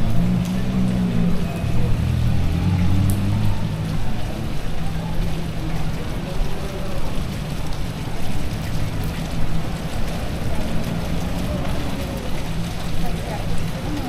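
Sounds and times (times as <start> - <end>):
heavy rain on wet pavement: 0.0 - 14.0.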